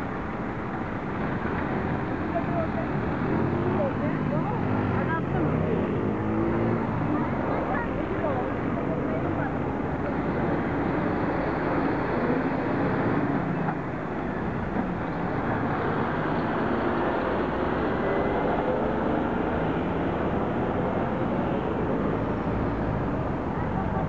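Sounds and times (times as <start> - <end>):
city traffic noise: 0.0 - 24.0
truck diesel engine: 0.0 - 24.0.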